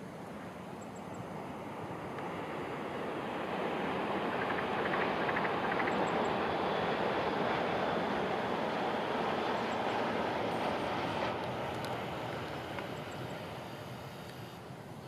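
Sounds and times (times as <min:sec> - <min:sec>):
high-speed train rushing past: 0:01.3 - 0:15.0.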